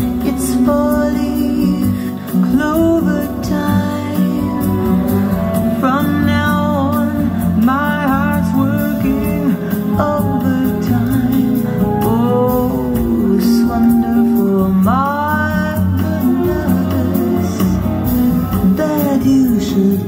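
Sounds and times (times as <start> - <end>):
song with singing and guitar: 0.0 - 20.0.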